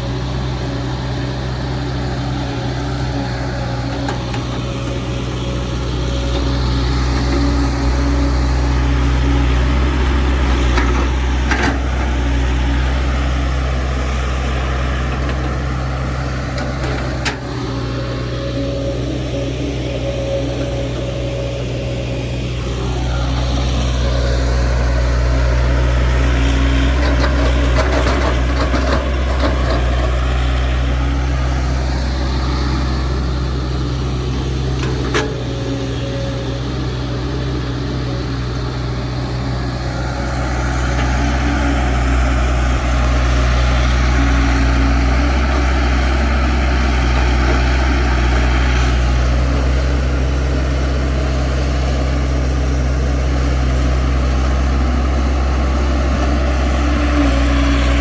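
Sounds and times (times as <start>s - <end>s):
heavy machine engine humming: 0.0s - 58.0s.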